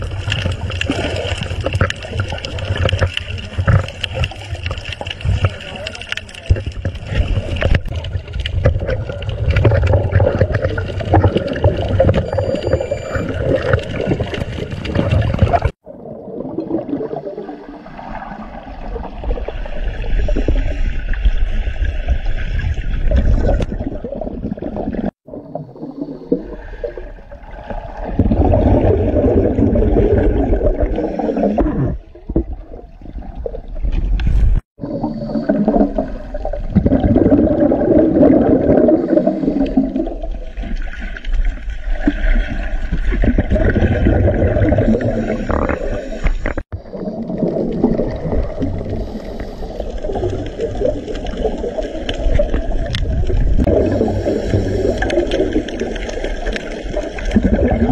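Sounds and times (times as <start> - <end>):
underwater rushing water: 0.0 - 57.9.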